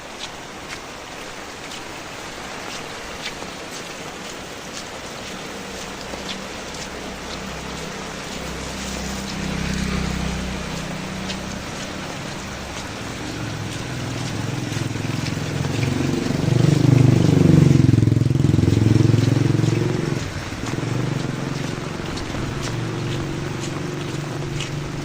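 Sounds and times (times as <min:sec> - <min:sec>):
steady rain: 0:00.0 - 0:25.0
vehicle engine passing by: 0:04.5 - 0:25.0.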